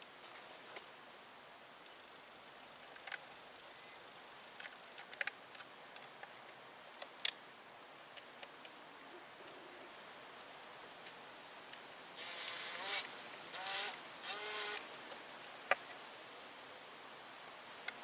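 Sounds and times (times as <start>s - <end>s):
faint steady background: 0.0s - 18.0s.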